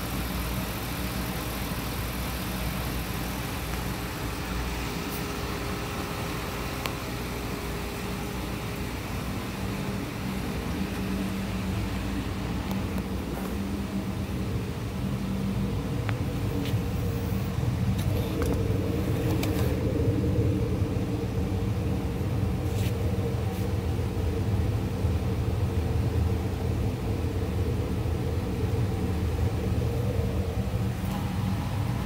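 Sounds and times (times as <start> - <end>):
car engine idling at tailpipe: 0.0 - 32.0.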